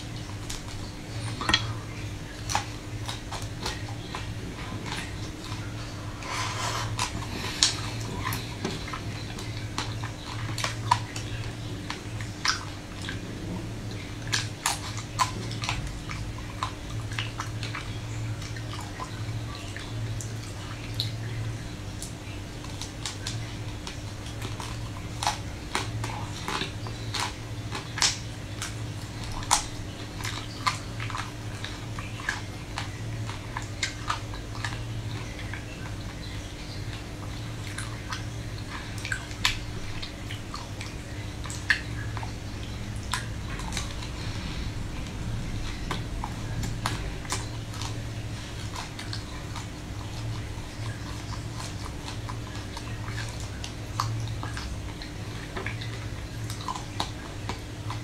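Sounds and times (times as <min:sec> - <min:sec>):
crackles and wet clicks of eating: 0:00.0 - 0:58.0
steady low hum: 0:00.0 - 0:58.0.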